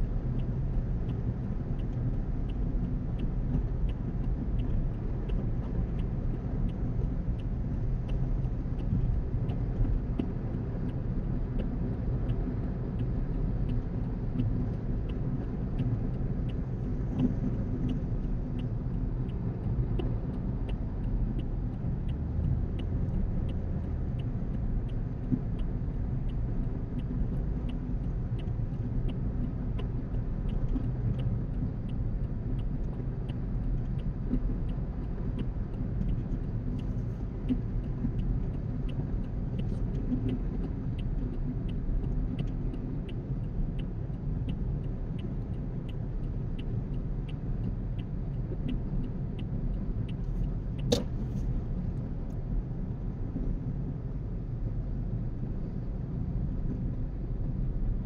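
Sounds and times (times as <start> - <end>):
car road and engine rumble: 0.0 - 58.0
faint regular ticking: 0.2 - 53.2.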